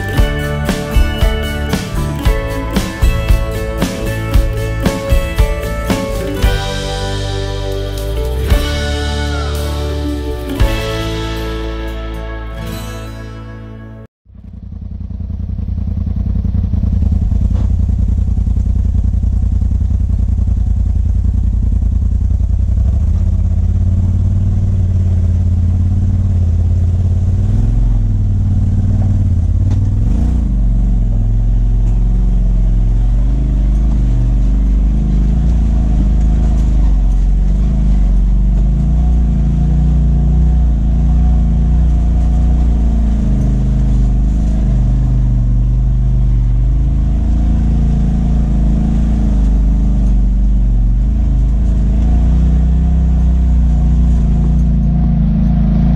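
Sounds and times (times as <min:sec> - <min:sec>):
utility vehicle engine running: 0:00.0 - 0:55.9.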